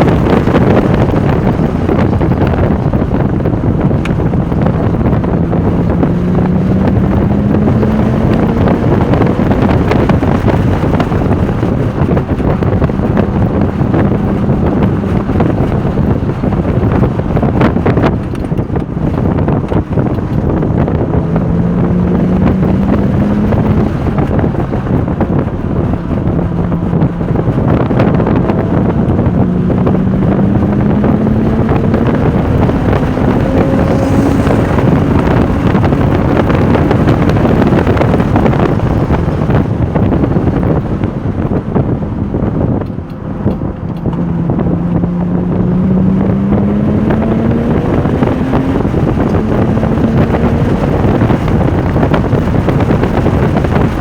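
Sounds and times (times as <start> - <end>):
sports car engine at full throttle: 0.0 - 54.0
wind and road noise: 0.0 - 54.0.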